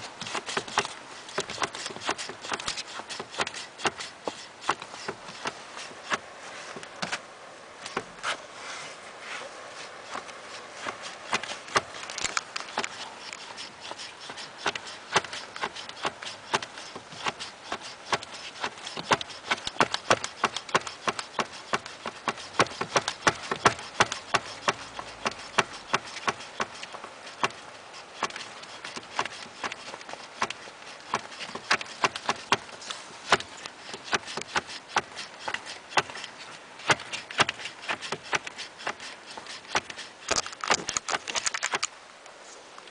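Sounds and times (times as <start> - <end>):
flip-flops slapping car pedals: 0.0 - 8.5, 9.8 - 41.8.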